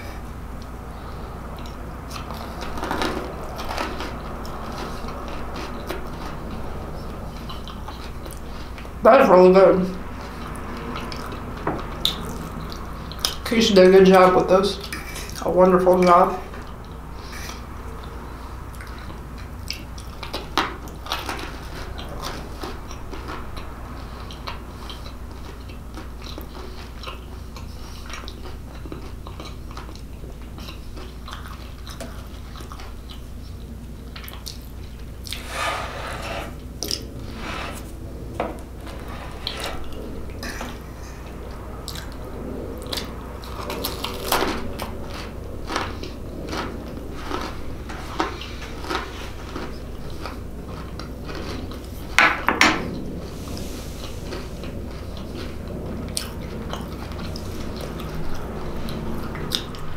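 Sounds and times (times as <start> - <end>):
person chewing: 0.0 - 9.0, 10.0 - 13.6, 14.8 - 59.9.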